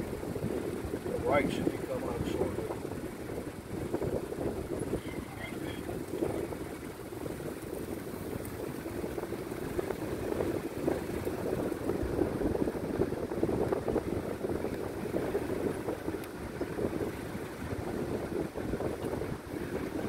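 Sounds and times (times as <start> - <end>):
vehicle engine and tyres rumbling: 0.0 - 20.0.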